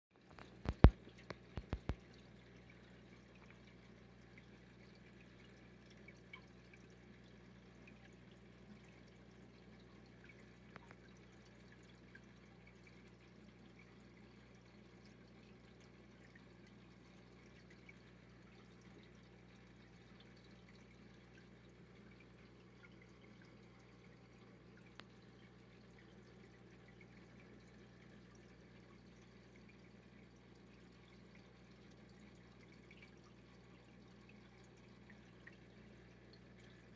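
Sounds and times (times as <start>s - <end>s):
aquarium filter hum: 0.2s - 36.9s
faint water drips: 0.2s - 36.9s.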